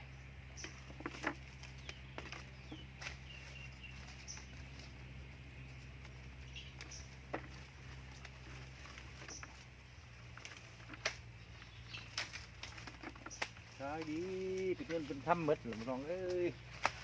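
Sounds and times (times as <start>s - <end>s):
fruit clicking and rustling: 0.5s - 17.0s.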